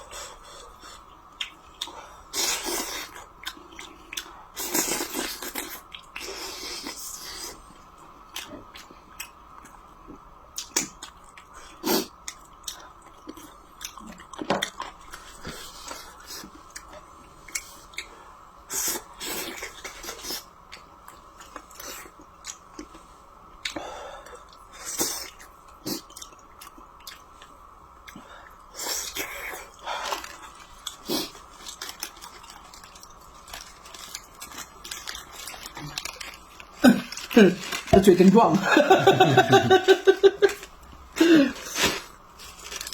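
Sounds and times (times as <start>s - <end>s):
person chewing food: 0.3s - 23.0s, 23.6s - 38.1s.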